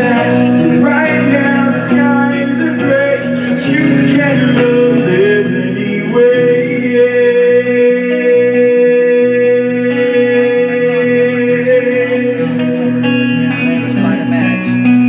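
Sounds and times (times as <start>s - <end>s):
lower notes: 0.0s - 15.0s
plucked guitar: 0.0s - 15.0s.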